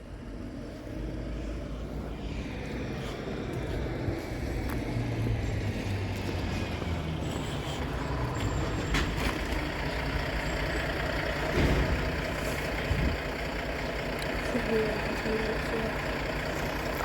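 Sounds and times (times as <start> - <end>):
train engine rumble: 0.0 - 17.0.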